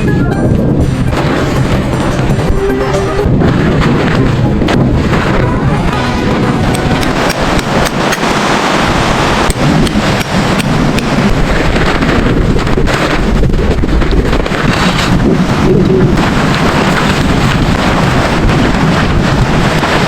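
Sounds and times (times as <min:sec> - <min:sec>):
blizzard wind on microphone: 0:00.0 - 0:20.0.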